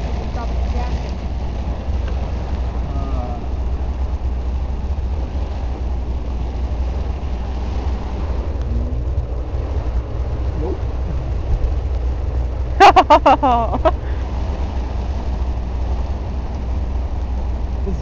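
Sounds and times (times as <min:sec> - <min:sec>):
car driving low rumble: 0:00.0 - 0:18.0
rain hiss and wet road noise: 0:00.0 - 0:18.0.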